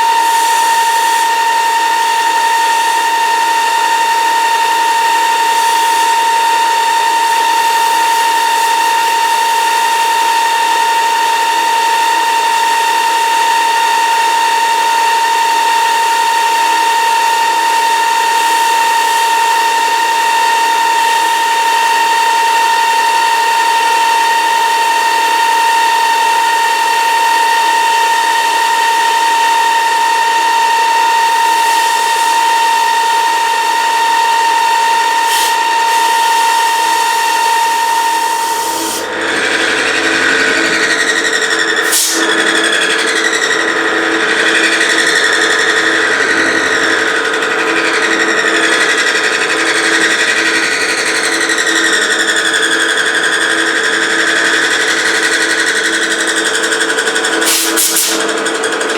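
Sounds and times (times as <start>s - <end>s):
milling machine whine: 0.0s - 58.9s.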